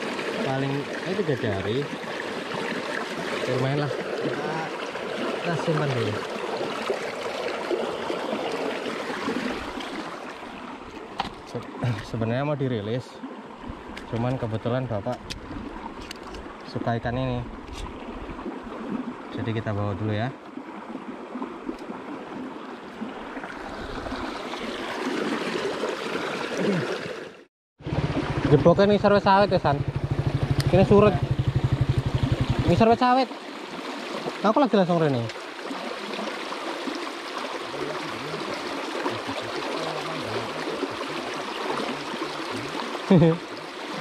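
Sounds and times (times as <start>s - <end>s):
water splashing and sloshing: 0.0s - 44.0s.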